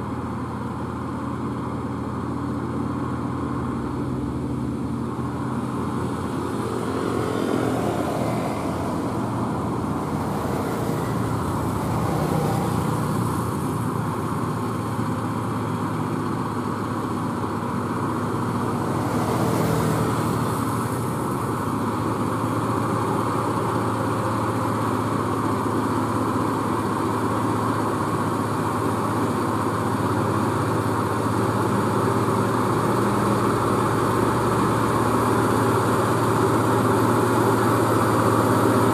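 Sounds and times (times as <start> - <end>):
truck diesel engine straining: 0.0 - 38.9.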